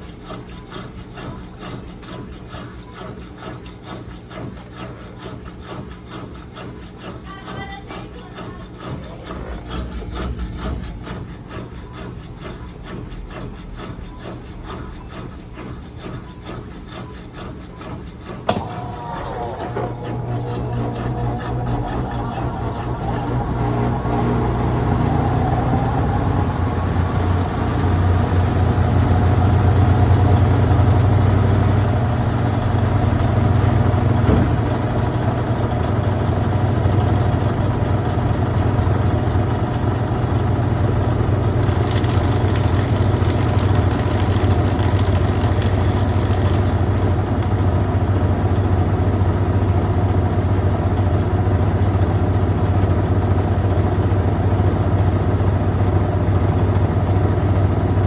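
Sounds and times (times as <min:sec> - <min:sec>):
washing machine motor hum: 0:00.0 - 0:58.0.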